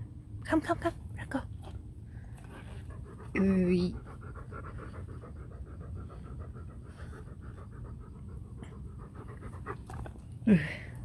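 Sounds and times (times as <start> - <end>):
large dog panting: 2.0 - 11.0.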